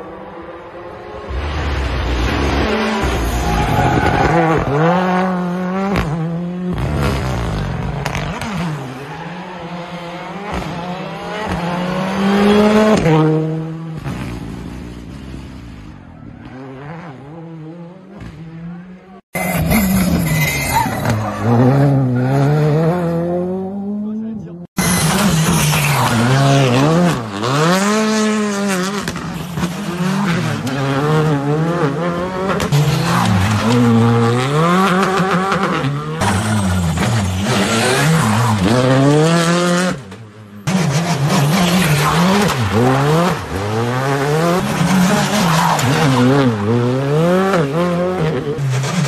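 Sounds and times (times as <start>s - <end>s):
rally car engines revving: 0.0s - 49.0s.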